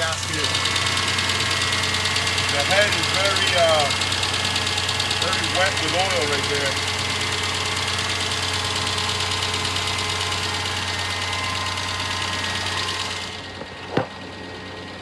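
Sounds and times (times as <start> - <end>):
engine ticking knock: 0.0 - 14.3
car engine running: 0.0 - 15.0.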